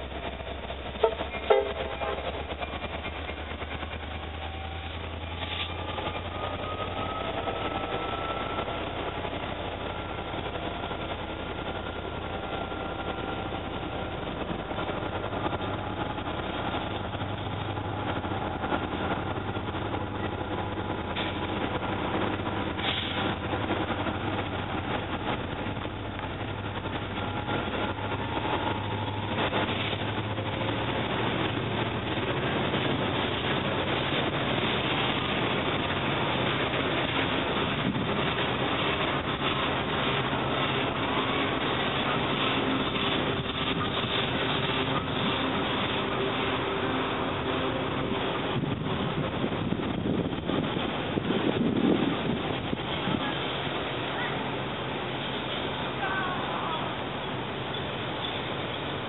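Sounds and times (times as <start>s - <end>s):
freight train rolling over rails: 0.0s - 59.0s.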